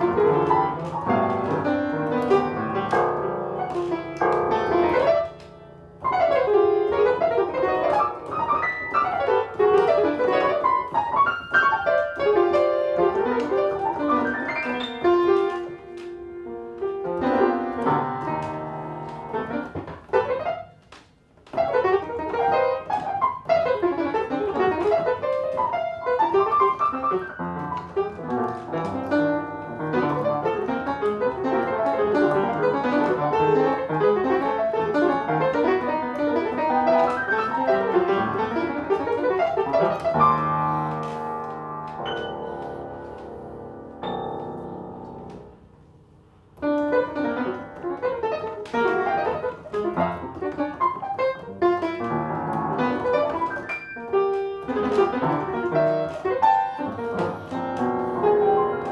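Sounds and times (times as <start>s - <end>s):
solo piano runs: 0.0s - 58.9s.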